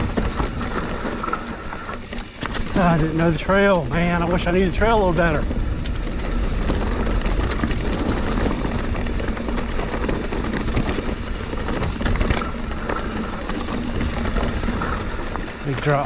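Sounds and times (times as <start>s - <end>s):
bike tyres rolling over rocks: 0.0s - 16.0s.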